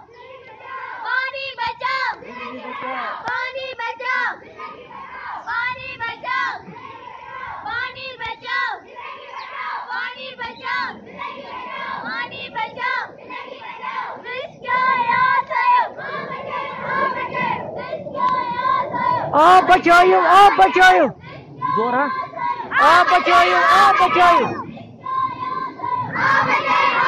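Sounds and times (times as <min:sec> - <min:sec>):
children chanting: 0:00.0 - 0:27.0.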